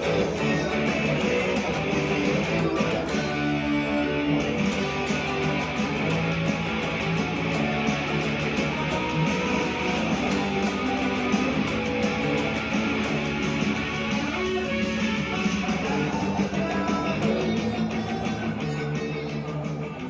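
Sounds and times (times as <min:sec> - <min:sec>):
electric guitar strumming power chords: 0:00.0 - 0:20.0.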